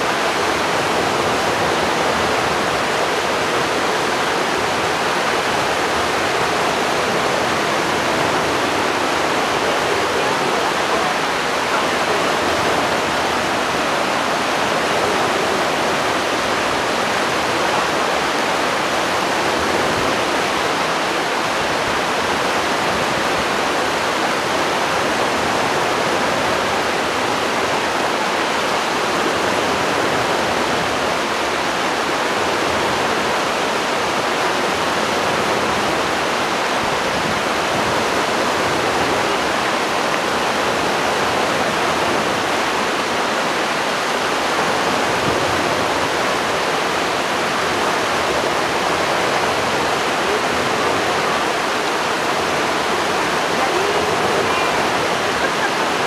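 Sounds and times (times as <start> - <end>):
brook babbling: 0.0 - 56.0.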